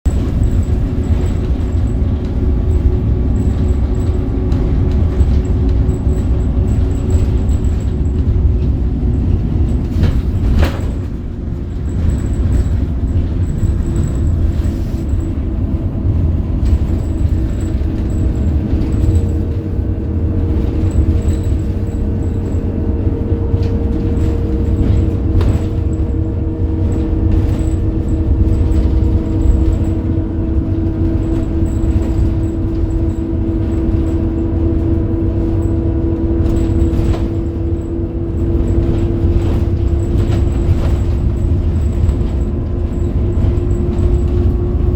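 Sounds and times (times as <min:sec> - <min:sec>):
bus diesel engine rumbling: 0:00.0 - 0:44.9
gearbox whine: 0:00.1 - 0:44.9.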